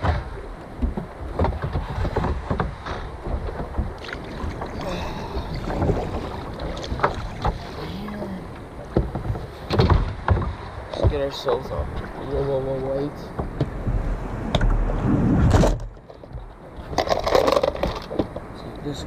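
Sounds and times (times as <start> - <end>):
paddle splashing in water: 0.0 - 18.6
wind rumbling on microphone: 0.0 - 19.0.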